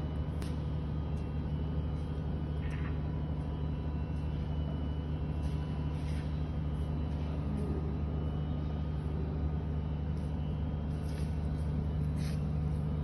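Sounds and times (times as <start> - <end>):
faint high whine: 0.0 - 13.0
machinery hum: 0.0 - 13.0.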